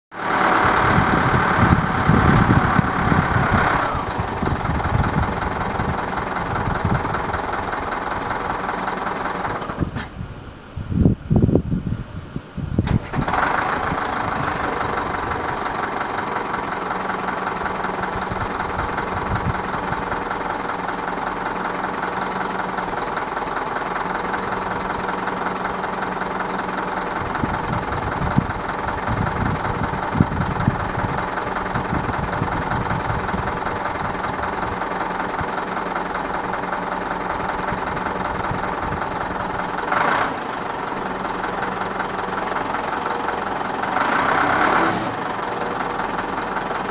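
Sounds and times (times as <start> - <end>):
diesel engine idling: 0.1 - 46.9.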